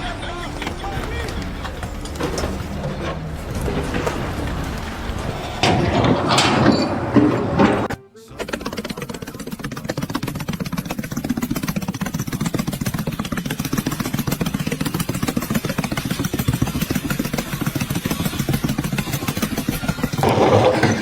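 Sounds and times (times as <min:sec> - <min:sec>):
engine running with fast pulsing: 0:00.0 - 0:21.0.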